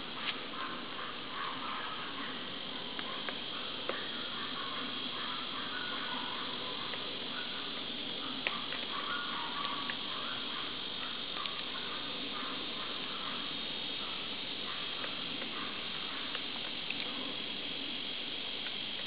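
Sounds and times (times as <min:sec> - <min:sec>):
insects droning: 0:00.0 - 0:19.0
woodpeckers pecking bark: 0:00.0 - 0:19.0.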